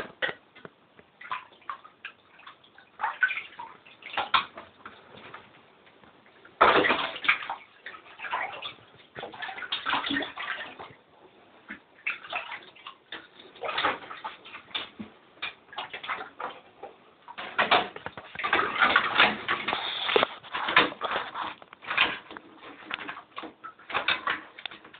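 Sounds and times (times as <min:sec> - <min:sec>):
water splashing and sloshing: 0:00.0 - 0:24.9.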